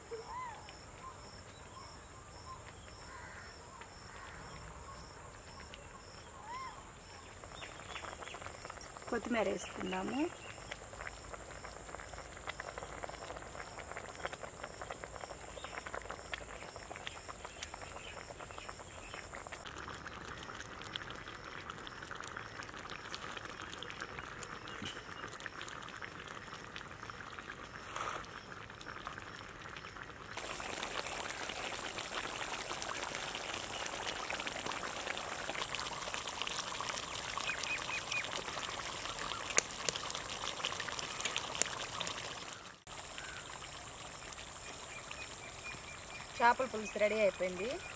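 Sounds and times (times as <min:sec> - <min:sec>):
curry bubbling and popping: 0:00.7 - 0:47.9
burning wood crackling: 0:07.1 - 0:47.9.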